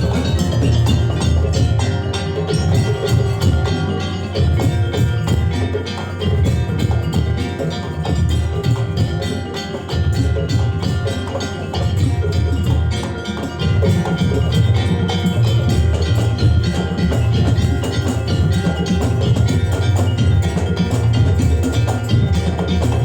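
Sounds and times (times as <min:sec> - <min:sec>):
percussion ensemble music: 0:00.0 - 0:23.0.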